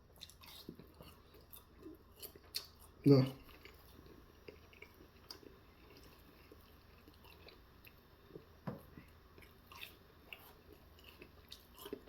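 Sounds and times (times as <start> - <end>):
faint chewing: 0.0 - 12.0.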